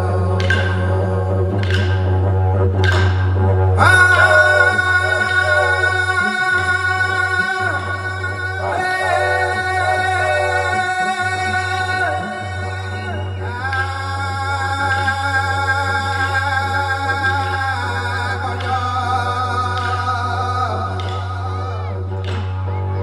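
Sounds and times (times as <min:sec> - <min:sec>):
didgeridoo drone: 0:00.0 - 0:23.0
man singing long notes: 0:03.8 - 0:22.4.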